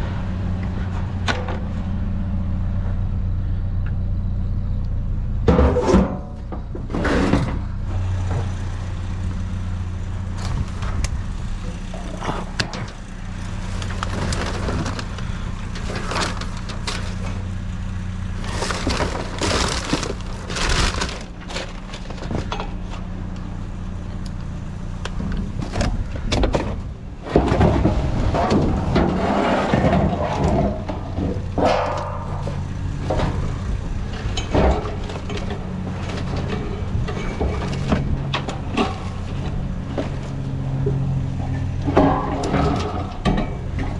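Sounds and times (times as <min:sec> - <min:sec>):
low engine hum: 0:00.0 - 0:43.9
scrap metal clanking and scraping: 0:05.4 - 0:23.6, 0:25.2 - 0:43.9.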